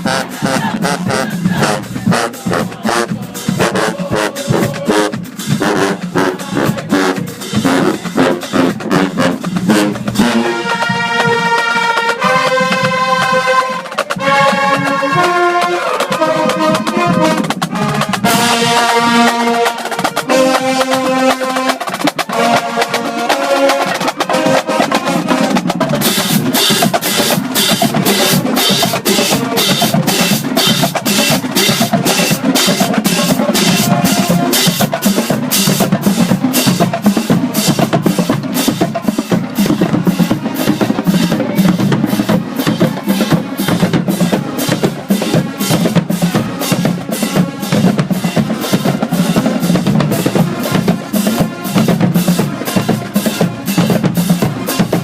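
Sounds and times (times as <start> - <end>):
marching band horns: 0.0 - 55.0
snare and bass drum cadence: 0.0 - 55.0.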